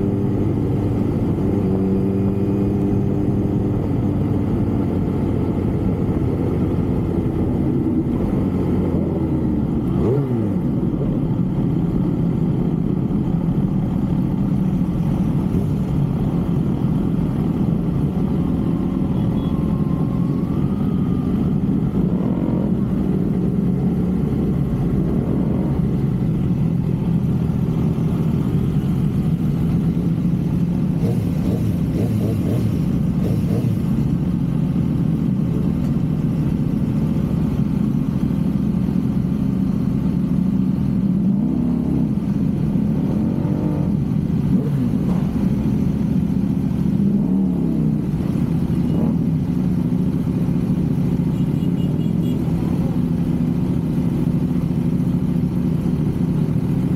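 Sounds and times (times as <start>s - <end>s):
vehicle engine rumbling: 0.0s - 56.9s.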